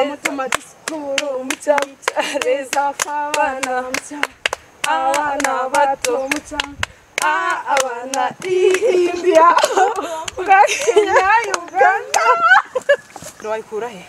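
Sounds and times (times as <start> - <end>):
hands clapping in rhythm: 0.0 - 12.4
women chanting a rhyme: 0.0 - 12.8.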